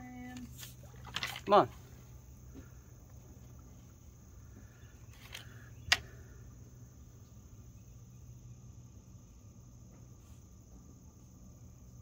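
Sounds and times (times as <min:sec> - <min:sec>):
crickets chirping: 0:00.0 - 0:12.0
low steady hum: 0:00.0 - 0:12.0.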